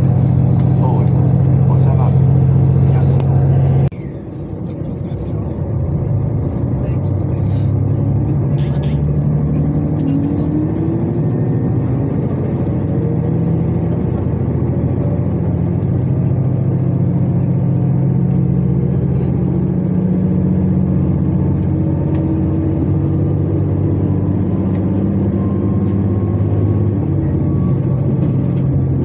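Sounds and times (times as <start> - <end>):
train engine drone: 0.0 - 29.0
wheels rumbling on track: 0.0 - 29.0.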